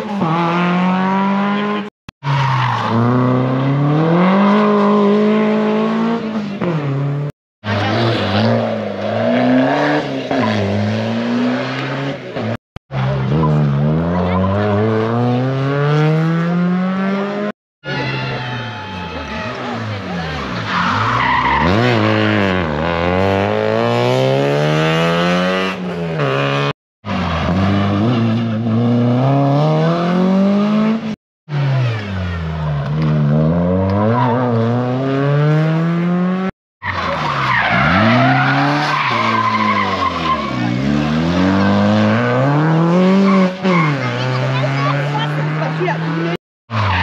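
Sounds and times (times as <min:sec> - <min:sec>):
rally car engines revving: 0:00.0 - 0:47.0.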